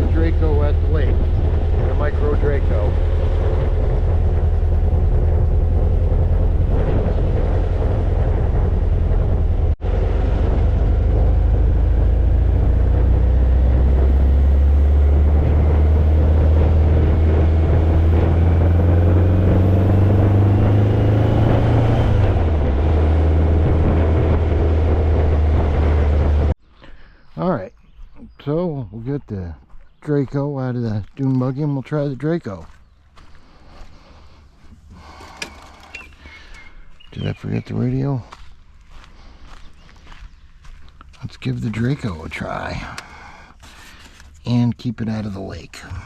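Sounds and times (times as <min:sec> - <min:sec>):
buggy engine rumbling: 0:00.0 - 0:26.6, 0:27.4 - 0:46.0.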